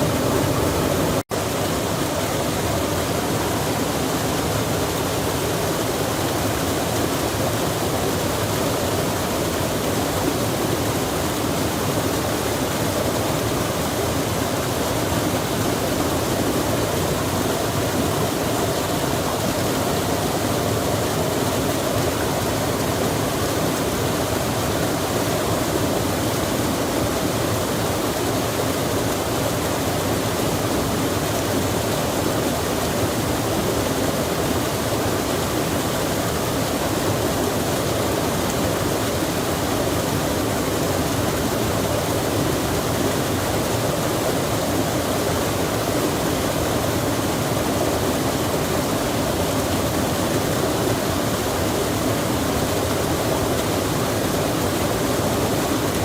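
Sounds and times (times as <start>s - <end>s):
stream rushing: 0.0s - 56.0s
rain falling: 3.7s - 56.0s.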